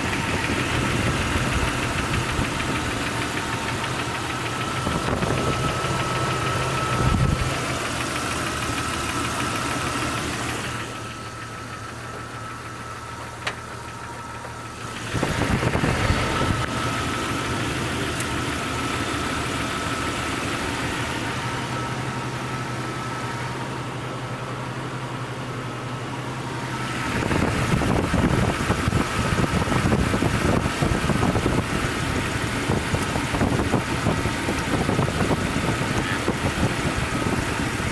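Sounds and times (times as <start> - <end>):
car engine running with knock: 0.0 - 37.9.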